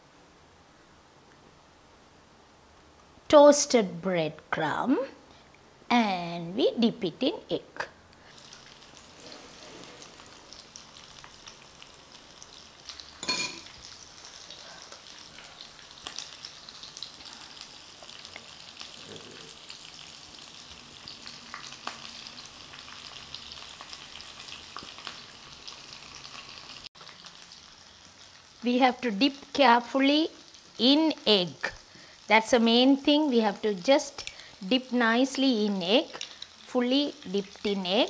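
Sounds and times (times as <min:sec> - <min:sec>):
food deep-frying in hot oil: 0:05.9 - 0:38.0.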